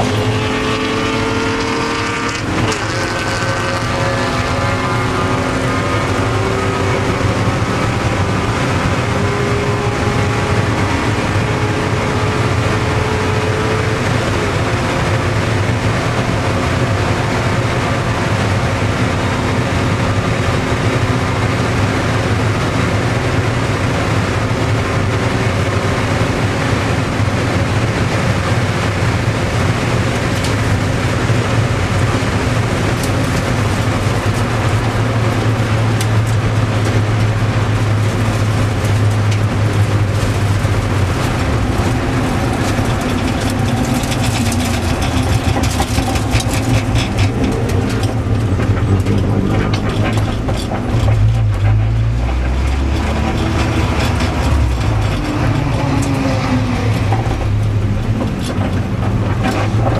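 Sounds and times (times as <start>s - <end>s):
car engine at high revs: 0.0s - 59.9s
wind and road noise: 0.0s - 59.9s.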